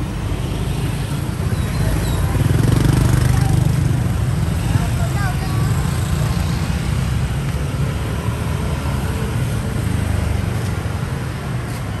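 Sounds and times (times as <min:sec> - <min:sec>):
motorbike traffic rumble: 0:00.0 - 0:12.0.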